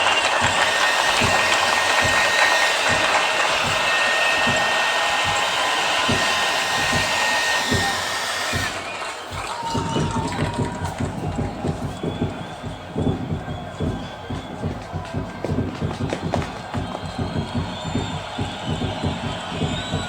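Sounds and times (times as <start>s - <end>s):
crowd applauding: 0.0s - 20.0s.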